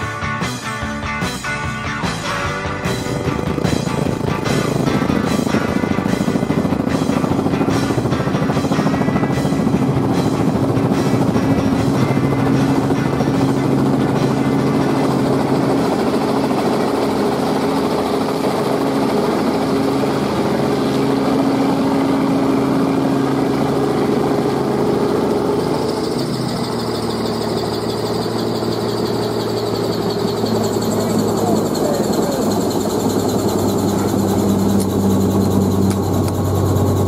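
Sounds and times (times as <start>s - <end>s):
helicopter engine and rotor drone: 0.0s - 37.0s
high-pitched whine: 1.9s - 37.0s.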